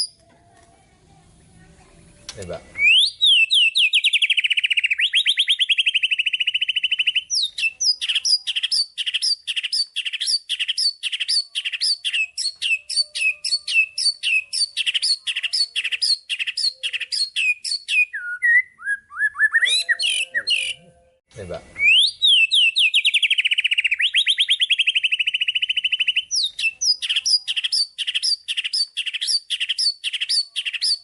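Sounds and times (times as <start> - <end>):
songbird trilling and whistling: 0.0 - 0.2, 2.8 - 20.9, 21.8 - 31.0.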